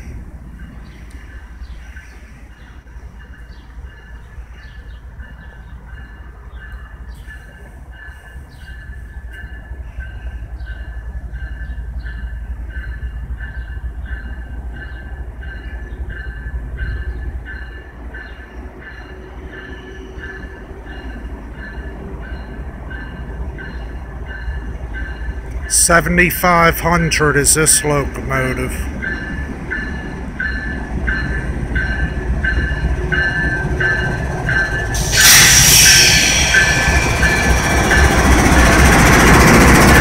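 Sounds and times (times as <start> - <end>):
locomotive bell ringing: 2.6 - 40.0.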